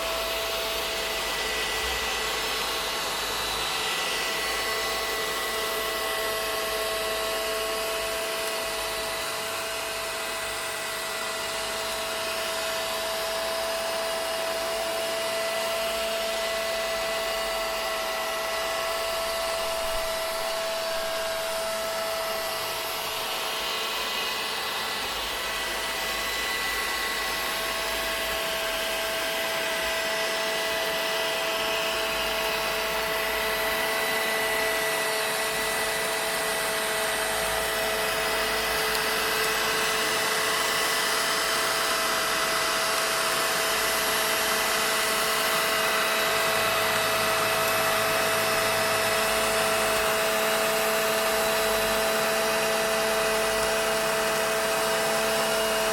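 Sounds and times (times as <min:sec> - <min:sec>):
vacuum cleaner motor running: 0:00.0 - 0:55.9.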